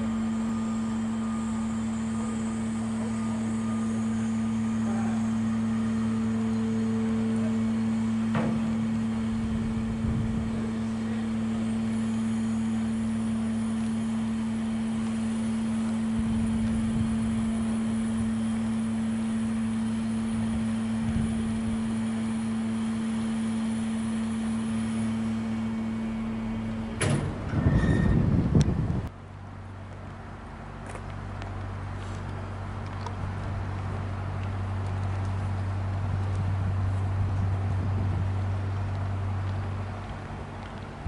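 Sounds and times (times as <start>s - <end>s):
bridge lifting machinery humming: 0.0s - 41.0s.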